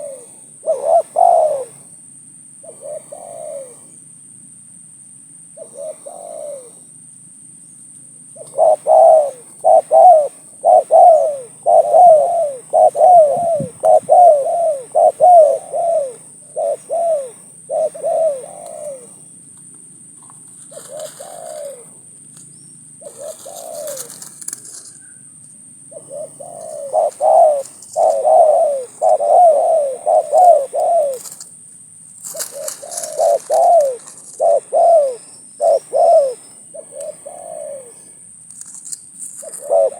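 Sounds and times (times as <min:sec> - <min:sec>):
doves cooing: 0:00.0 - 0:02.0, 0:02.6 - 0:04.1, 0:05.6 - 0:07.0, 0:08.4 - 0:19.4, 0:20.2 - 0:22.2, 0:22.9 - 0:39.9.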